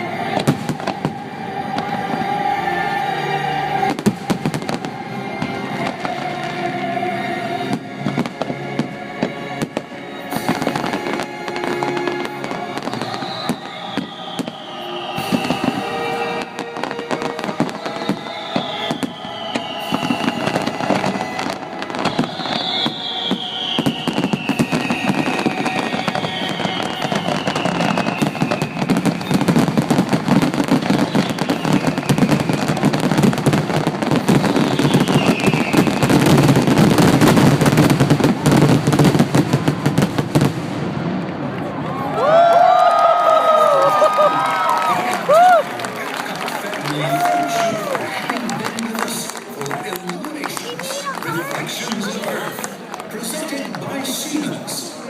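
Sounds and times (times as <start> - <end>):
fireworks falling whistles: 0.0 - 8.6, 9.2 - 40.8, 42.3 - 55.0
show music: 0.0 - 34.7, 42.9 - 55.0
fireworks crackling and bursting: 0.0 - 55.0.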